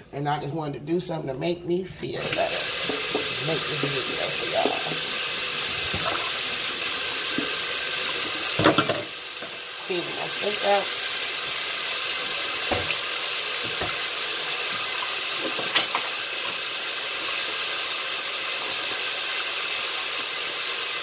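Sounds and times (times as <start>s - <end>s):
faucet running into a sink: 2.2s - 21.0s.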